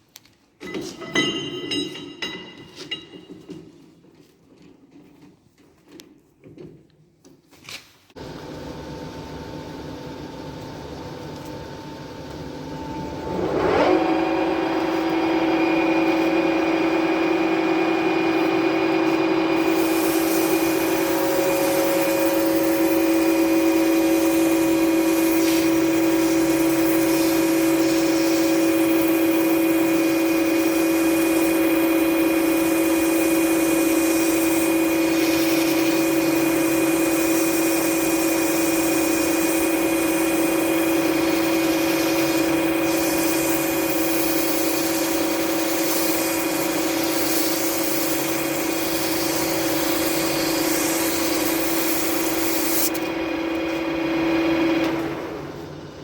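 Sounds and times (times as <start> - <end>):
lathe motor whine: 8.2 - 56.0.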